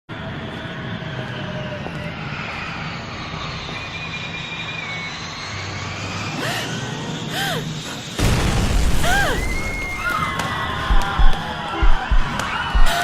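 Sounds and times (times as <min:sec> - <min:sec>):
airplane engine drone: 0:00.1 - 0:13.0
high whining tones: 0:00.1 - 0:13.0.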